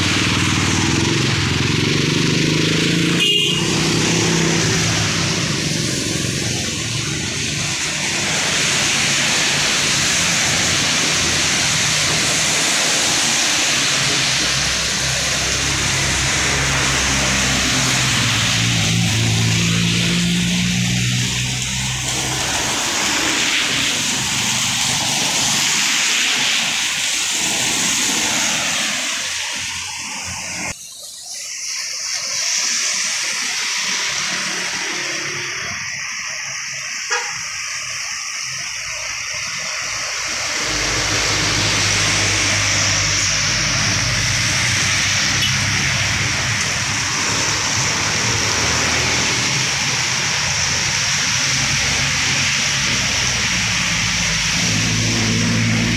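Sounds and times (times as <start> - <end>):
cars and motorcycles passing: 0.0 - 55.9
tyres hissing on wet road: 0.0 - 55.9.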